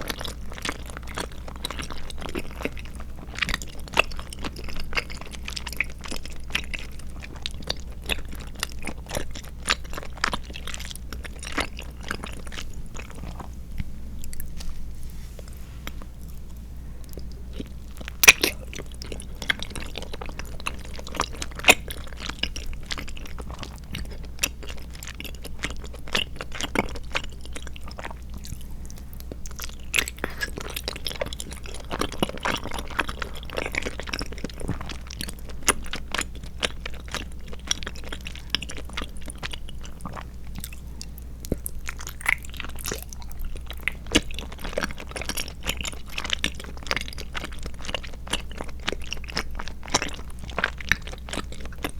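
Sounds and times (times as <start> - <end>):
wet squishy chewing: 0.0 - 14.8, 15.4 - 51.9
faint low hum: 0.0 - 51.9.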